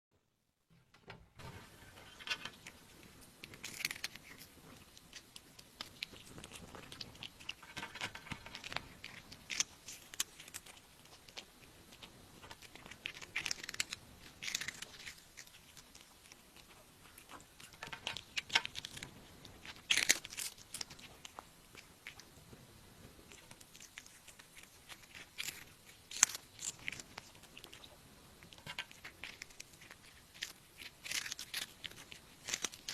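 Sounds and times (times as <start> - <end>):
cat chewing and crunching: 1.3 - 32.9.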